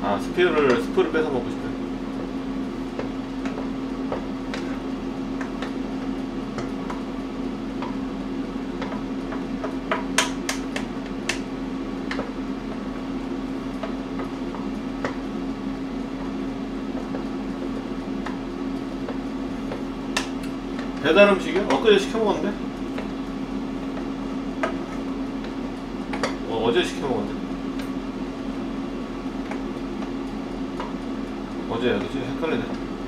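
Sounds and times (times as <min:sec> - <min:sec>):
kitchen appliance humming: 0:00.0 - 0:33.0.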